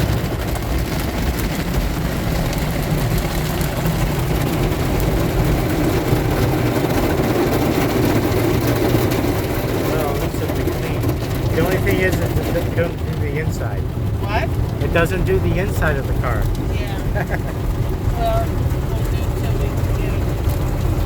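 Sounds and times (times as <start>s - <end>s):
car wash machinery rumble: 0.0s - 21.0s.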